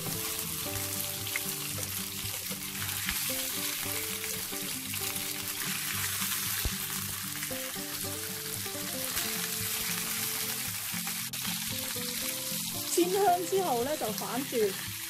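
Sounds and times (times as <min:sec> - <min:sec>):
fish sizzling in hot oil: 0:00.0 - 0:15.0
soft background music: 0:00.0 - 0:15.0.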